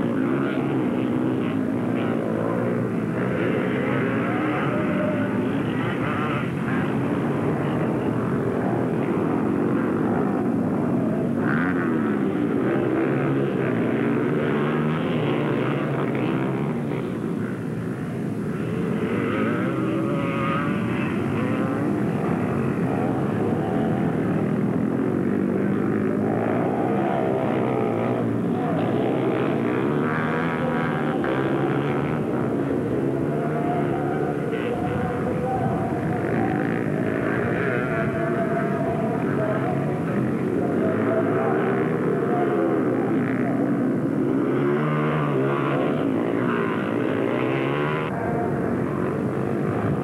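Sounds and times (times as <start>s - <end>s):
racing atv engines revving: 0.0s - 50.0s.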